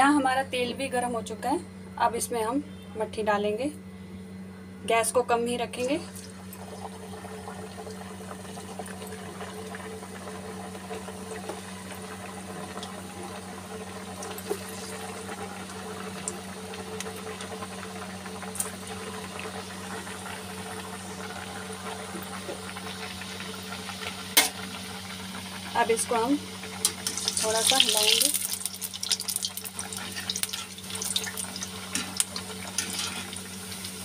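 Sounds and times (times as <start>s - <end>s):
dough sizzling in hot oil: 5.9s - 34.0s.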